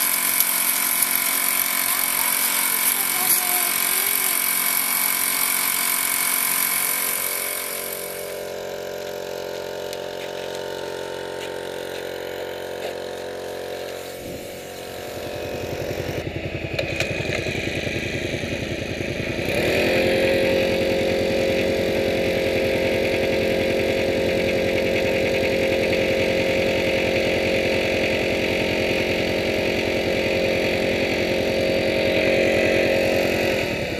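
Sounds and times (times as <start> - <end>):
small engine running: 0.0 - 33.9.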